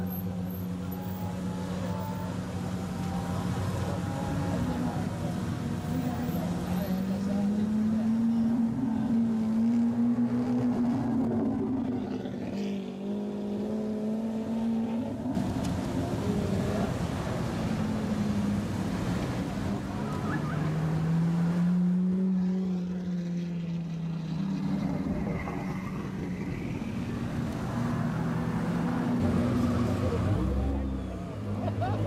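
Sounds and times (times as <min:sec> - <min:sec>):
car engines running at low revs: 0:00.0 - 0:32.0.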